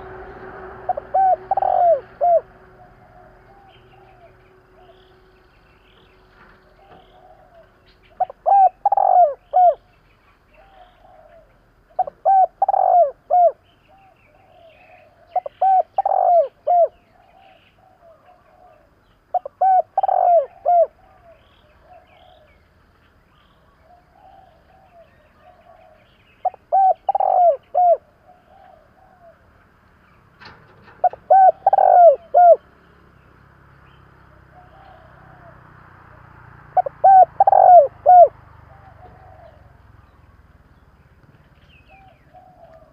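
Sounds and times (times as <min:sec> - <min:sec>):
dove cooing: 0:00.0 - 0:05.1, 0:06.6 - 0:22.6, 0:23.8 - 0:29.6, 0:30.8 - 0:32.7, 0:34.4 - 0:40.0, 0:41.8 - 0:42.9.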